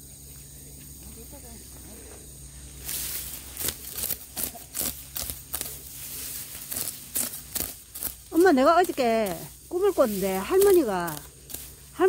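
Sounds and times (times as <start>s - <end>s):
sickle cutting grass stems: 2.1s - 12.0s.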